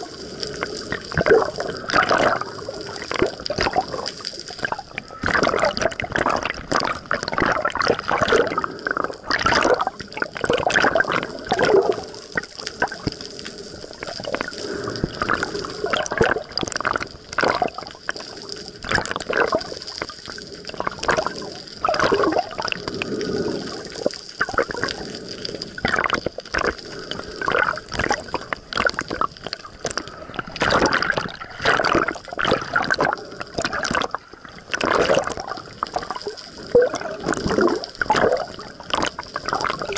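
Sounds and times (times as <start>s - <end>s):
small splashes and bubbles: 0.0s - 39.9s
water sloshing and gurgling: 0.0s - 39.9s.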